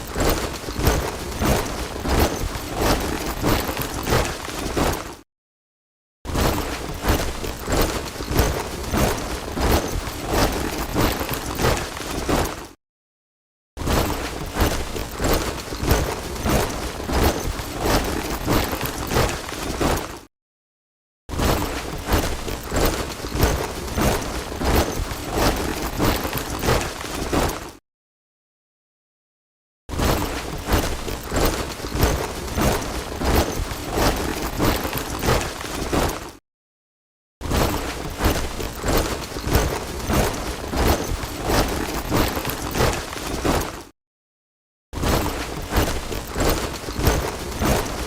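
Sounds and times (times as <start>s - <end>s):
soldiers marching boots: 0.0s - 5.2s, 6.4s - 12.7s, 13.9s - 20.2s, 21.4s - 27.8s, 30.0s - 36.4s, 37.6s - 43.9s, 45.1s - 48.0s.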